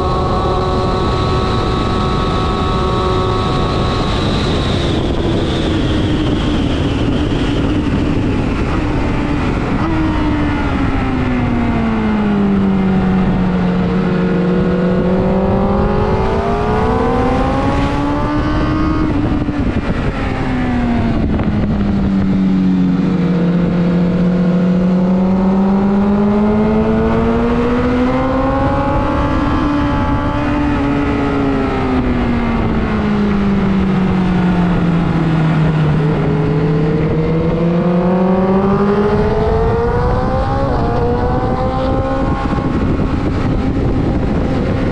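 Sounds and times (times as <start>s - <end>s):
motorcycle engine at speed: 0.0s - 44.9s
steady rushing noise: 0.0s - 44.9s.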